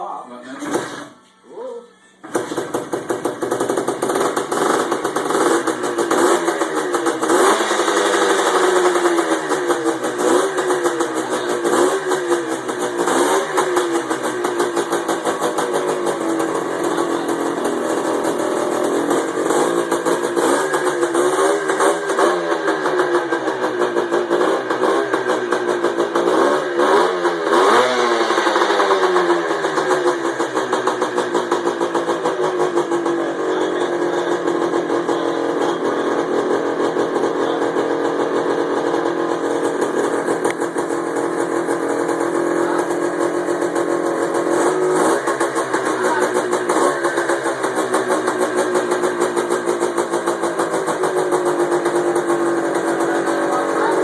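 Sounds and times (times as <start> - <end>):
dirt bike engine revving and idling: 2.2 - 54.0.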